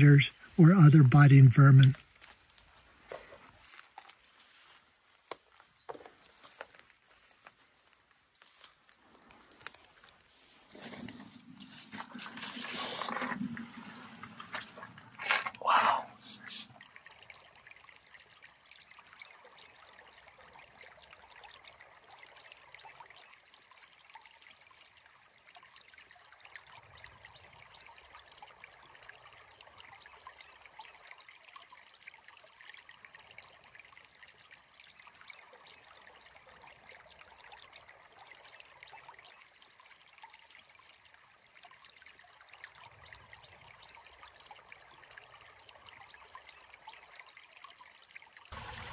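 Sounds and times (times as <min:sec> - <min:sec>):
small stream trickling: 0:00.0 - 0:48.9.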